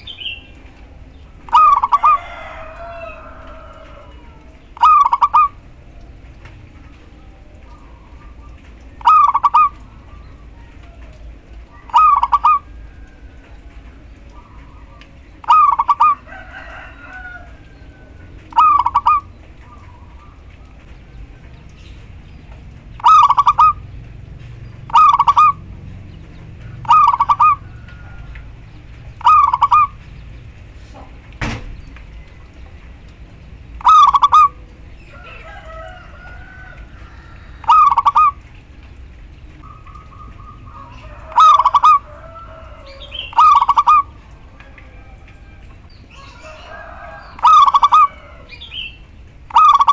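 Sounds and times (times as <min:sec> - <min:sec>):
dove warbling coo: 0:00.0 - 0:20.9, 0:22.3 - 0:24.0, 0:24.7 - 0:30.2, 0:33.8 - 0:38.6, 0:39.6 - 0:49.9.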